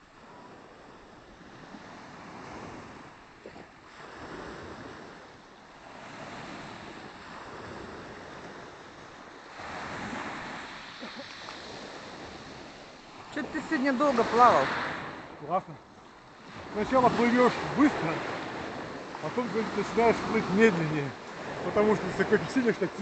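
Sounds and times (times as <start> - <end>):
small waves on pebble beach: 0.0 - 23.0.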